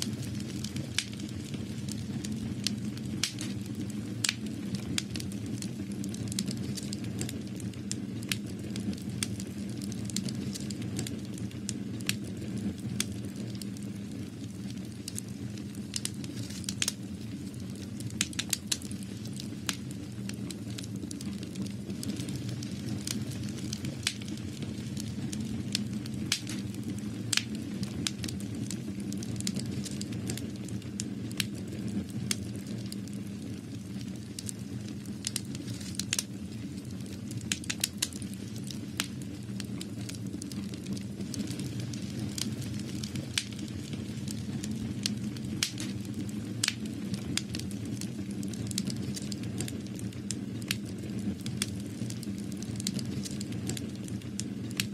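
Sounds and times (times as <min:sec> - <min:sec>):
sharp crackles and pops: 0:00.0 - 0:54.9.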